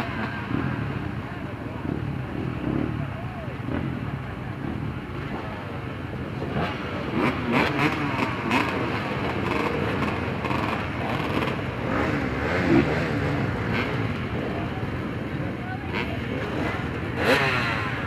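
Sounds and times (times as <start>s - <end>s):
motorcycle engines idling and revving: 0.0s - 18.0s.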